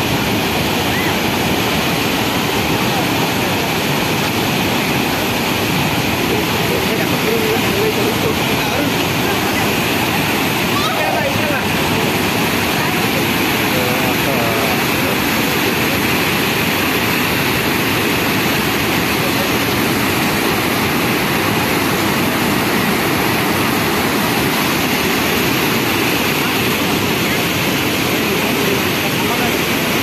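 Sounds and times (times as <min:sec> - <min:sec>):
waterfall rushing over rocks: 0:00.0 - 0:30.0.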